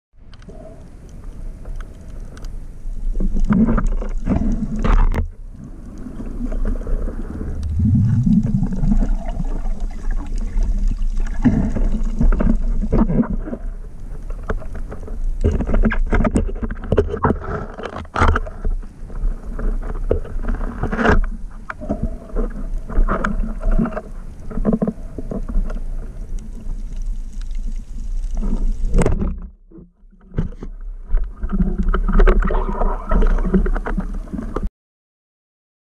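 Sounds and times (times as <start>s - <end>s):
underwater rumble of moving water: 0.2s - 34.7s.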